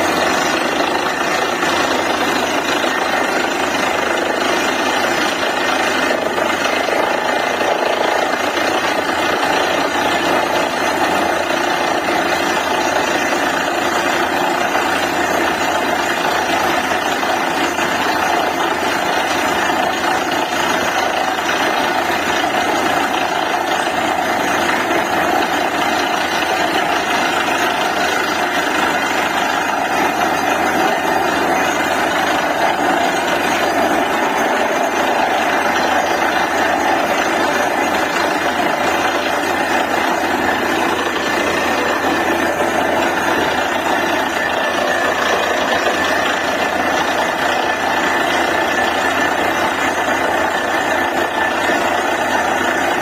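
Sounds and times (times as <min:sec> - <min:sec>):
drilling rig running: 0:00.0 - 0:53.0.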